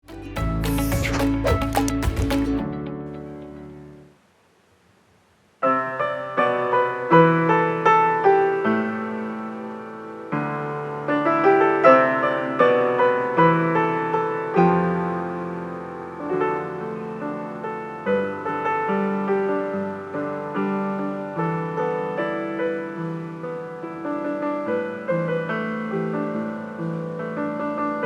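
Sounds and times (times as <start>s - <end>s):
gentle piano music: 0.0s - 4.1s, 5.6s - 28.0s.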